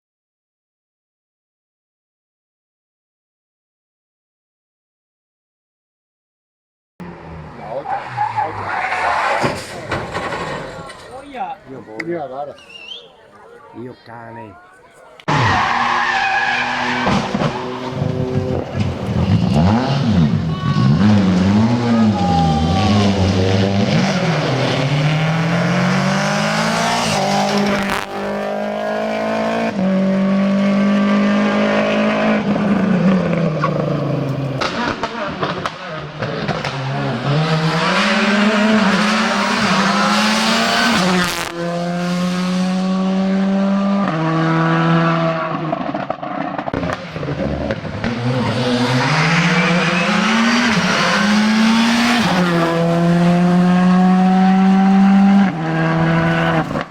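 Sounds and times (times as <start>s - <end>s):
rally car engines revving: 7.0s - 13.5s, 15.1s - 56.9s.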